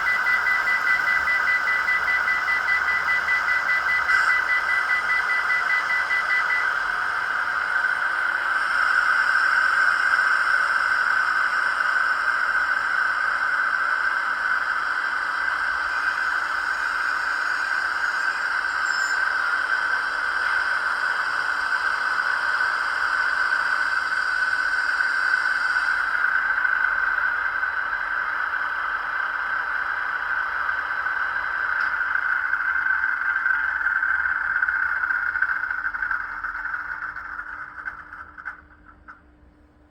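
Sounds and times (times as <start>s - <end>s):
hissing layer: 0.0s - 38.0s
model locomotive diesel engine sound: 0.0s - 39.9s.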